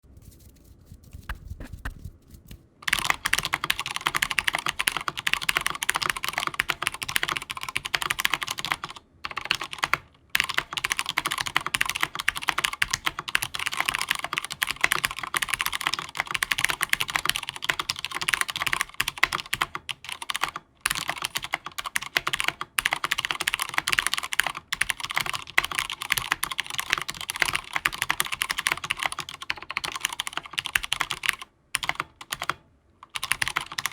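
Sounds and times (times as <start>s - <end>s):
mechanical keyboard typing: 2.8s - 33.9s.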